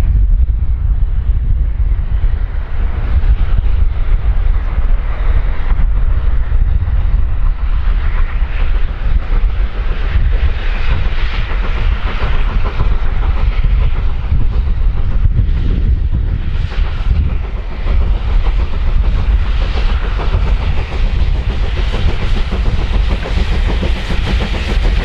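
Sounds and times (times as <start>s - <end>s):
steam train wheel and rail noise: 0.0s - 25.0s
wind on microphone: 0.0s - 25.0s.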